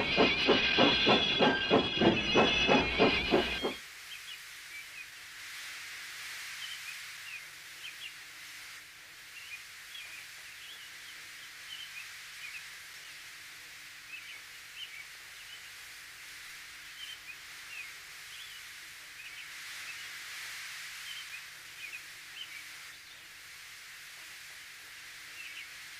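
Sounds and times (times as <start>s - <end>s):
soft hiss: 3.8s - 25.9s.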